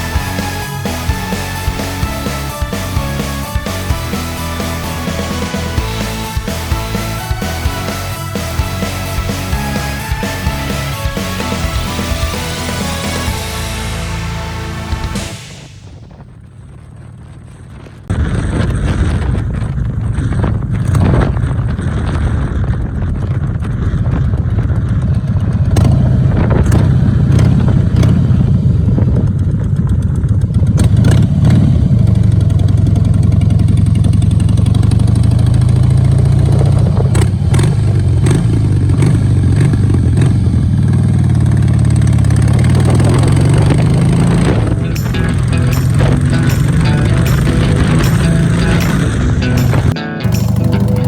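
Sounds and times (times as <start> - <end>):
motorcycle engine rumbling: 0.0 - 51.0.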